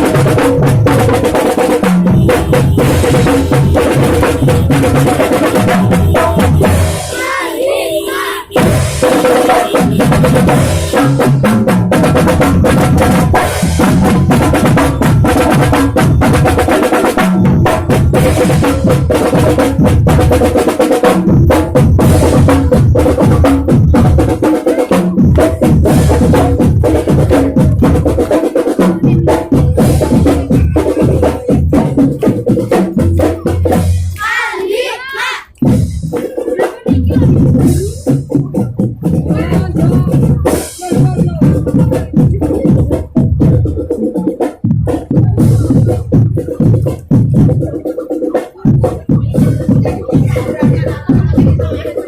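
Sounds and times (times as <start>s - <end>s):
snare and bass drums: 0.0s - 7.5s, 8.2s - 52.0s
sustained band melody: 0.0s - 52.0s.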